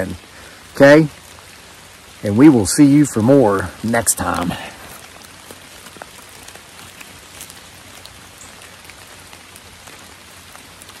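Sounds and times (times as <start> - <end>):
light rain on leaves: 0.0 - 11.0
raindrops ticking: 0.0 - 11.0.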